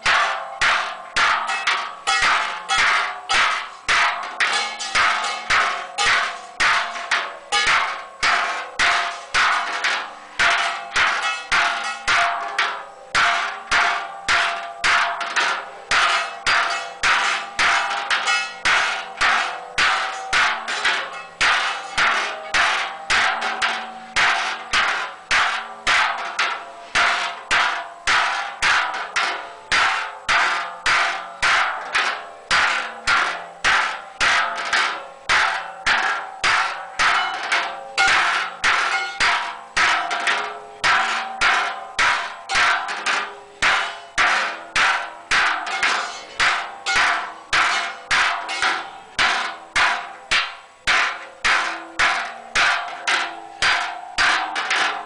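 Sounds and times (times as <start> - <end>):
hammer ringing on metal: 0.0 - 55.0.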